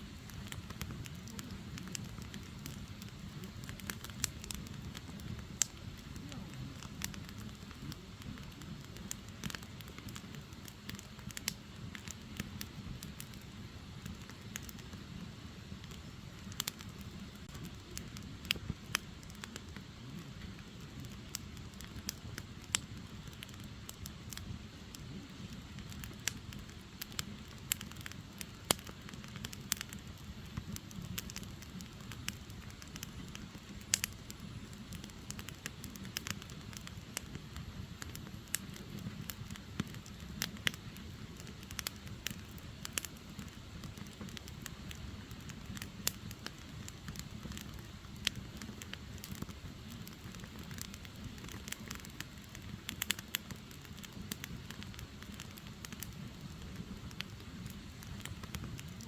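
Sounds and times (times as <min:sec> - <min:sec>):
firewood burning and crackling: 0:00.0 - 0:59.0.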